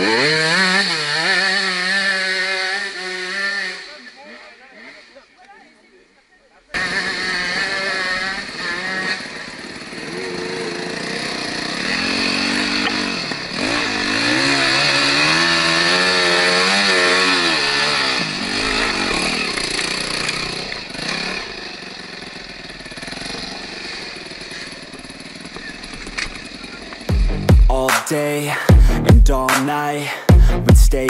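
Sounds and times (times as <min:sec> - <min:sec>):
dirt bike engine revving: 0:00.0 - 0:05.4, 0:06.7 - 0:31.0.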